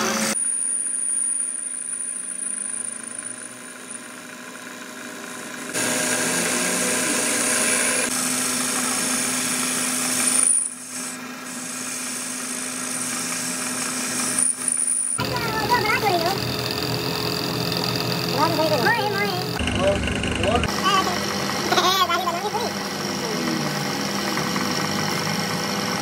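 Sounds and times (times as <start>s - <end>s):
lathe cutting metal: 0.0s - 26.0s
lathe motor hum: 2.0s - 26.0s.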